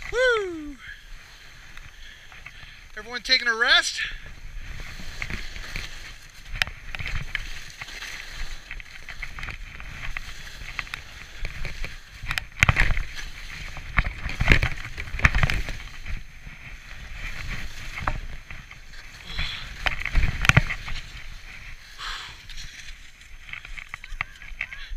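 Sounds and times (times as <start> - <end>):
skis swishing through snow: 0.0 - 24.8
ski scrapes and knocks: 4.2 - 24.8.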